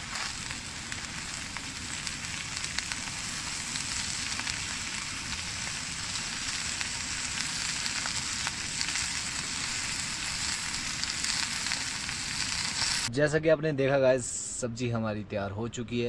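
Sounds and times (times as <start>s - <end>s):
food sizzling in a pan: 0.0s - 13.1s.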